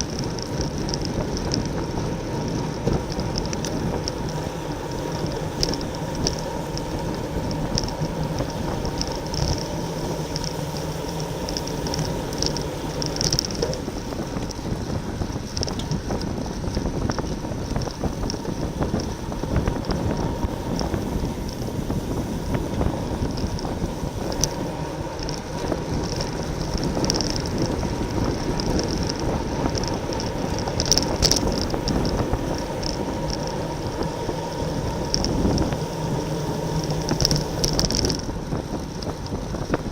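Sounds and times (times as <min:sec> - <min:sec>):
road and tyre rumble: 0:00.0 - 0:39.9
wind buffeting microphone: 0:00.0 - 0:39.9
sharp ticks: 0:02.5 - 0:39.9.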